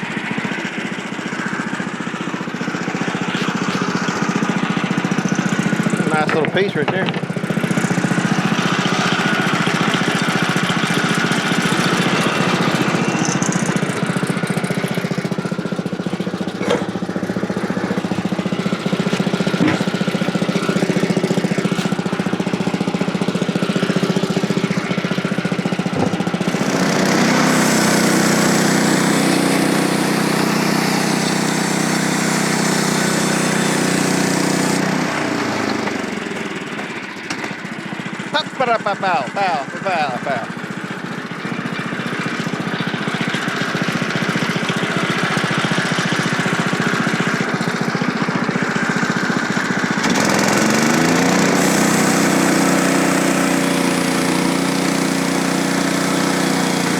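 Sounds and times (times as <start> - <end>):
small gasoline engine running: 0.0 - 56.9.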